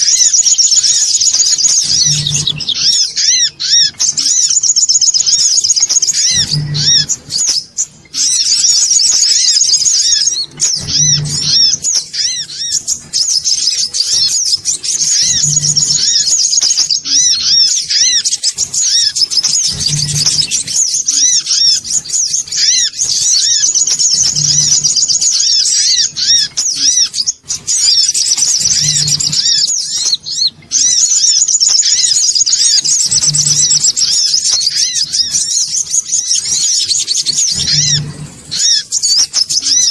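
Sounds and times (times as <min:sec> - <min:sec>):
sunbird chattering: 0:00.0 - 0:39.9.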